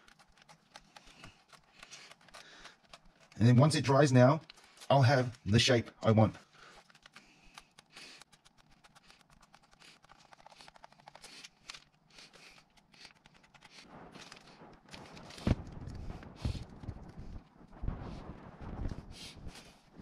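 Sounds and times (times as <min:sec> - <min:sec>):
tape rustling: 0:00.0 - 0:17.4.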